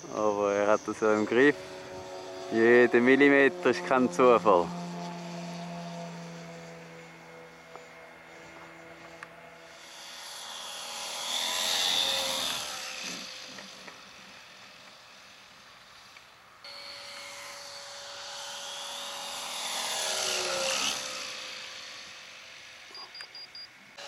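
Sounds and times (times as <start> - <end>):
model plane engine and propeller: 0.0 - 23.3.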